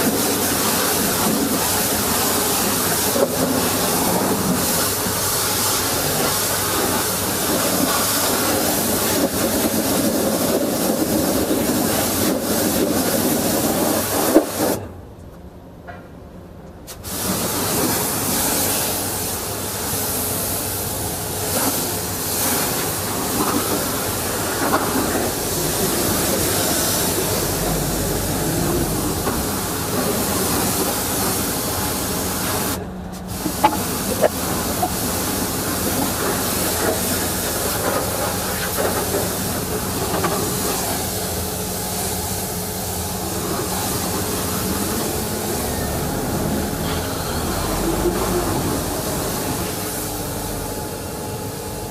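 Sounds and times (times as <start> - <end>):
pressure washer jet hissing: 0.0 - 14.8, 16.9 - 50.4.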